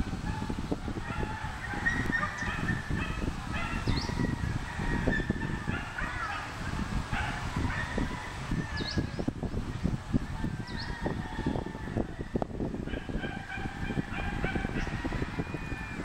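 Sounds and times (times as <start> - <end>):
roosters crowing: 0.3 - 9.3, 10.2 - 16.0.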